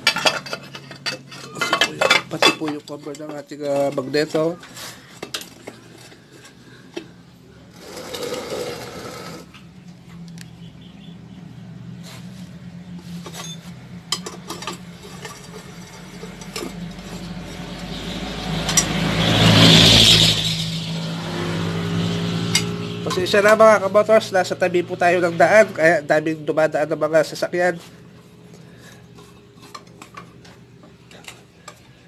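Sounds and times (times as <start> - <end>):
traffic engine drone: 0.0 - 32.0
vehicle passing close: 4.4 - 32.0.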